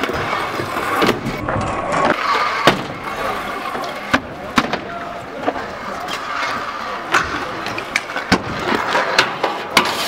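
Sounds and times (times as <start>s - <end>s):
scooter wheels rolling on concrete: 0.0s - 10.0s.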